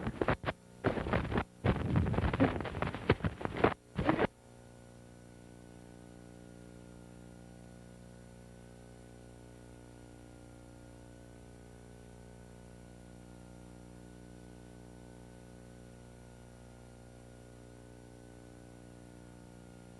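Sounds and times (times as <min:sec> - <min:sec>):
electrical hum and hiss: 0:00.0 - 0:19.9.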